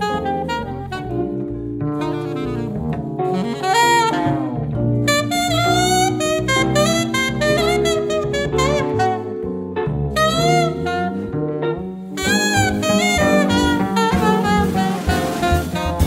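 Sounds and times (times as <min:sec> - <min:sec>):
alto saxophone jazz melody: 0:00.0 - 0:16.0
jazz bass and chords: 0:00.0 - 0:16.0.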